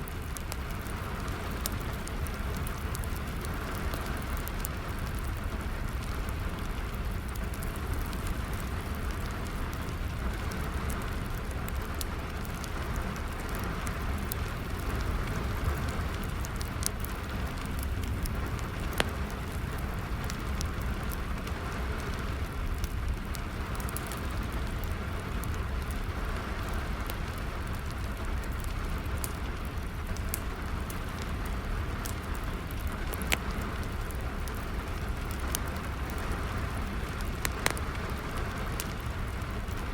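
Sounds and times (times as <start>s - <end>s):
steady rain falling: 0.0s - 39.9s
wood fire crackling: 0.0s - 39.9s.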